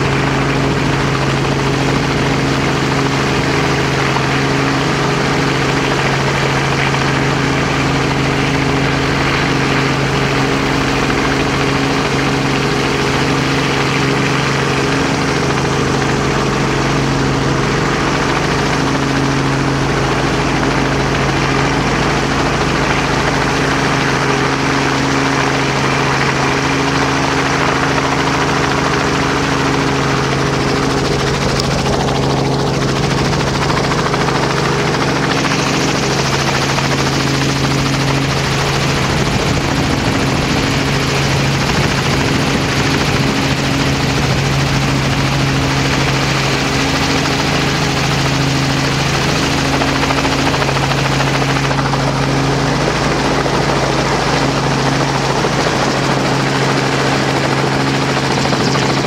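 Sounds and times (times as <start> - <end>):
loud engine drone: 0.0 - 59.0
rushing wind and water: 0.0 - 59.0.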